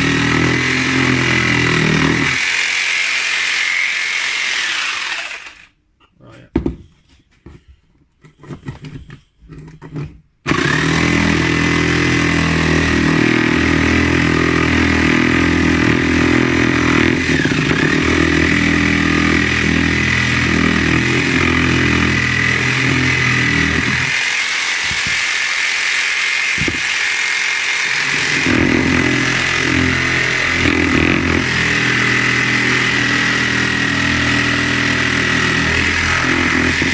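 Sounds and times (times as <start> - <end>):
electric jigsaw cutting wood: 0.0 - 5.7, 10.5 - 36.9.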